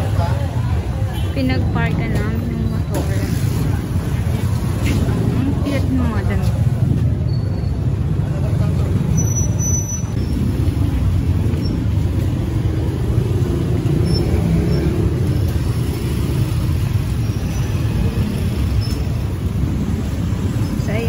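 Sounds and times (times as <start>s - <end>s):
motor vehicle traffic rumble: 0.0s - 21.0s.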